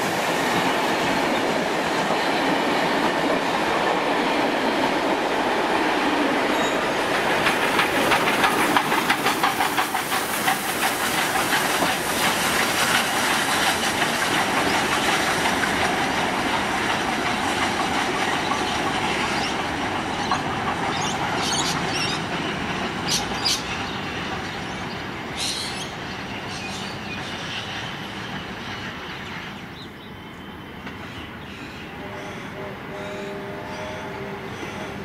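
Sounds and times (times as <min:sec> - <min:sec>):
steam train rumbling: 0:00.0 - 0:35.0.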